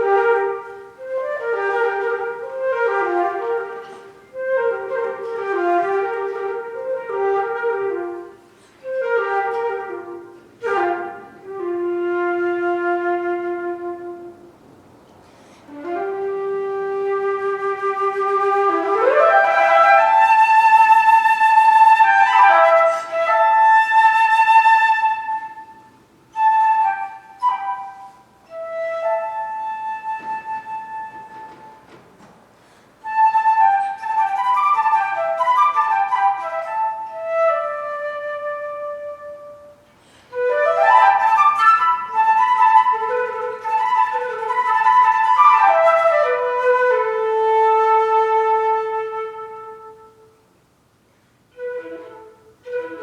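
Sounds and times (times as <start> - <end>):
solo flute playing: 0.0 - 14.6, 15.6 - 32.0, 33.0 - 50.6, 51.5 - 53.0.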